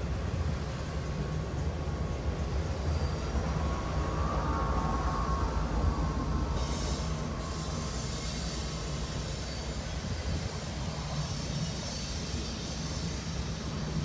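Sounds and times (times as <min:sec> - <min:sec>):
freight train wheels rumbling: 0:00.0 - 0:14.0
train wheel squeal: 0:00.0 - 0:14.0.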